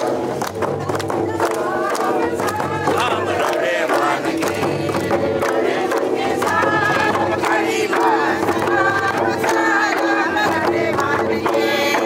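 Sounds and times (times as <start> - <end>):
group singing folk song: 0.0 - 12.0
hand clapping: 0.0 - 12.0.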